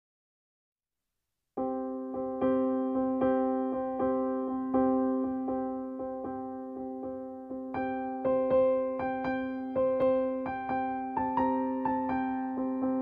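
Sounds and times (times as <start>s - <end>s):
slow piano notes: 1.6s - 13.0s.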